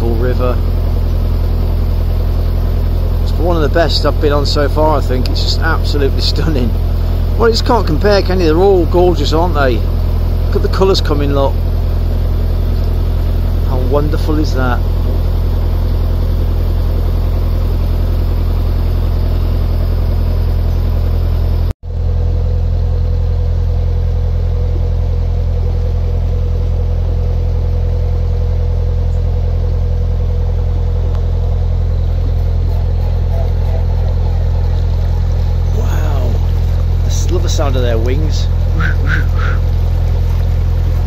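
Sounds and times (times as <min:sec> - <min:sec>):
diesel engine rumbling: 0:00.0 - 0:41.0.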